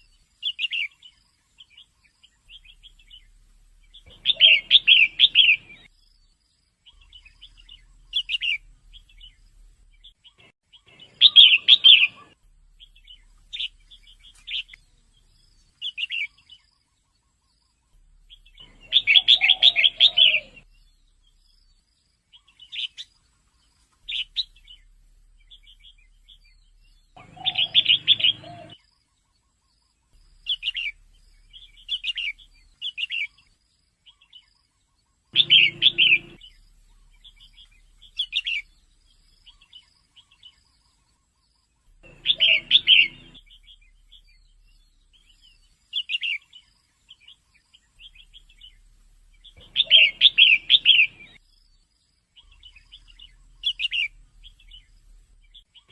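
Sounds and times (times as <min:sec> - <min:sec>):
bulbul calling: 0:00.0 - 0:06.2, 0:06.8 - 0:21.6, 0:22.3 - 0:23.2, 0:24.0 - 0:28.8, 0:30.1 - 0:33.5, 0:34.1 - 0:51.6, 0:52.4 - 0:55.9.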